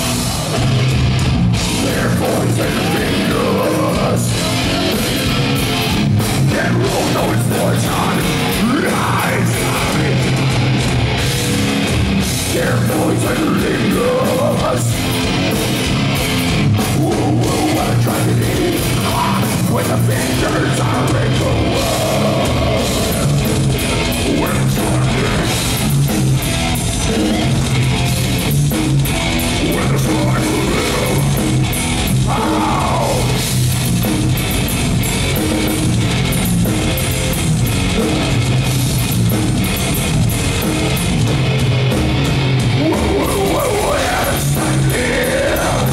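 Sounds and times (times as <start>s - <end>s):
death metal band playing live: 0.0s - 45.9s.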